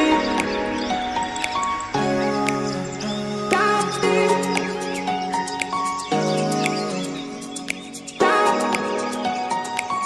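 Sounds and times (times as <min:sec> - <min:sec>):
light percussive ticks: 0:00.3 - 0:10.0.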